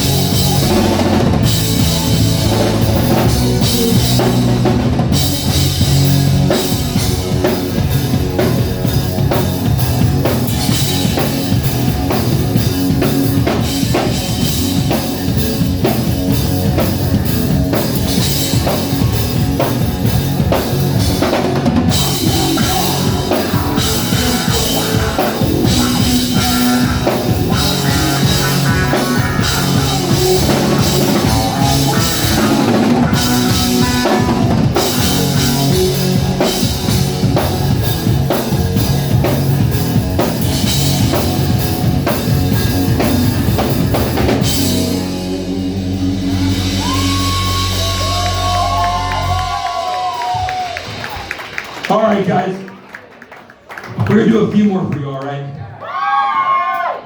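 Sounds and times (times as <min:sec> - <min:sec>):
drum kit beats: 0:00.0 - 0:52.5
rock band playing: 0:00.0 - 0:52.6.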